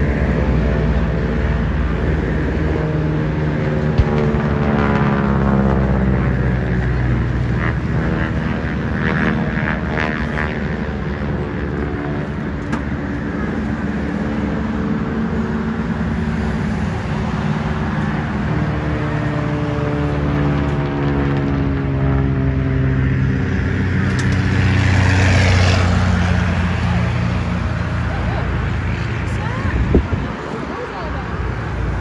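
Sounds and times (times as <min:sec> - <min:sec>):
engine drone: 0:00.0 - 0:32.0.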